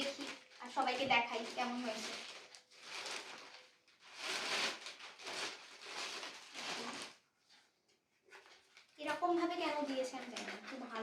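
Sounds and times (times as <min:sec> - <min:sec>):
packaging rustling and crinkling: 0:00.0 - 0:09.0.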